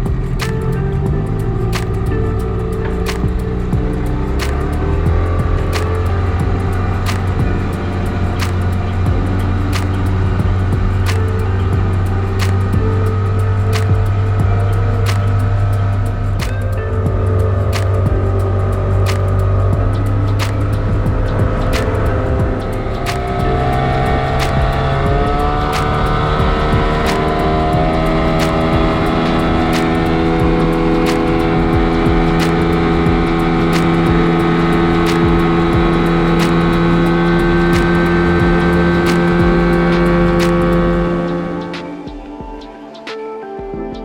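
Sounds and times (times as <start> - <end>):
boat engine running: 0.0 - 41.7.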